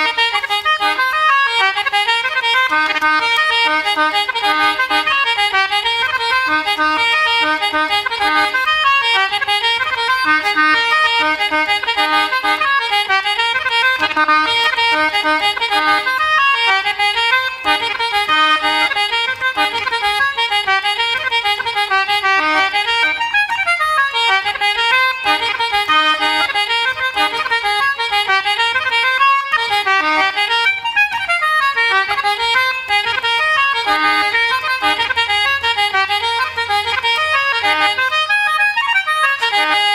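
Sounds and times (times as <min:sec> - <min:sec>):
fast reels on accordions: 0:00.0 - 0:39.9.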